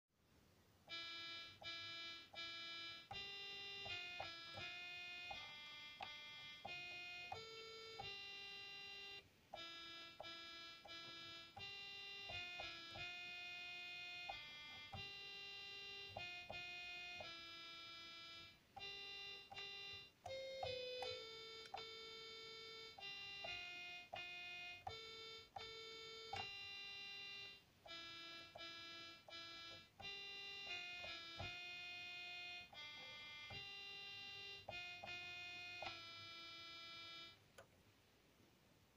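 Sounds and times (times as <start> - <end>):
toy keyboard melody: 0.9 - 37.4.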